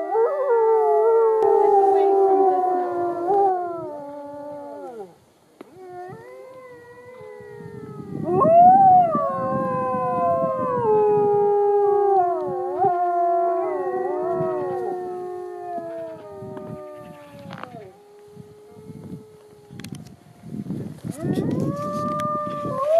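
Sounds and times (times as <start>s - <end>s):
wolves howling in chorus: 0.0s - 5.2s, 5.8s - 20.5s, 21.1s - 22.9s.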